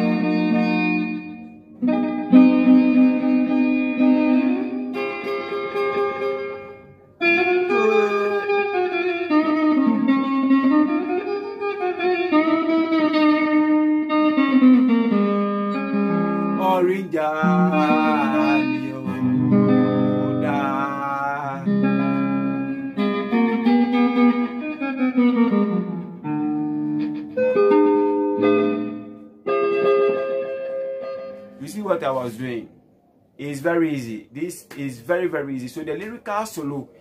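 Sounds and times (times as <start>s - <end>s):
electric guitar solo: 0.0s - 31.7s.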